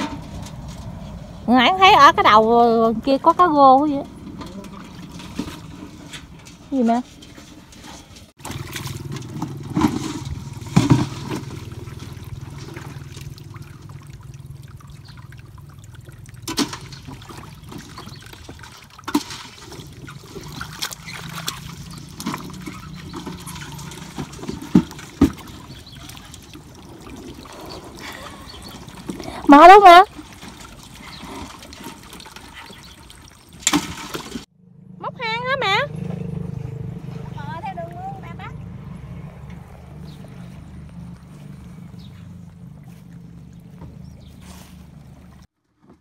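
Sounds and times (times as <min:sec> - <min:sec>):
water trickling and sloshing: 0:00.0 - 0:34.5, 0:36.4 - 0:46.0
knocks and splashes: 0:01.8 - 0:34.5, 0:36.9 - 0:46.0.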